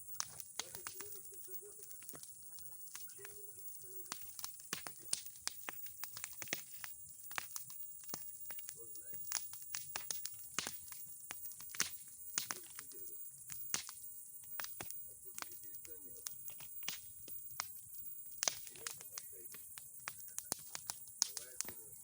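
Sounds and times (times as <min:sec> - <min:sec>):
bonfire crackling and popping: 0:00.0 - 0:22.0
faint steady hiss: 0:00.0 - 0:22.0.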